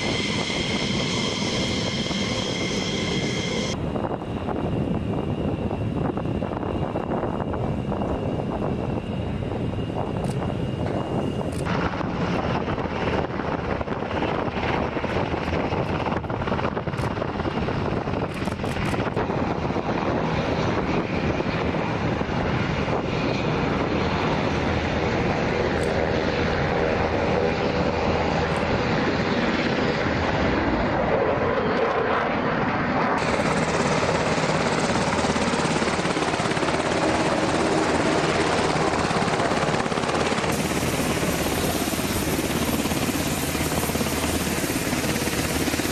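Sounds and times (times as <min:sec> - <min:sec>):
helicopter hovering: 0:00.0 - 0:45.9.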